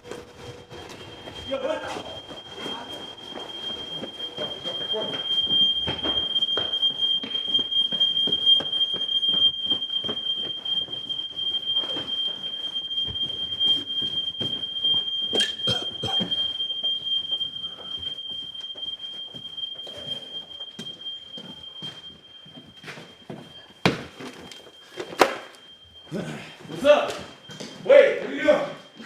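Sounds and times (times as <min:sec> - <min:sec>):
smoke alarm high-pitched tone: 0:00.0 - 0:29.0.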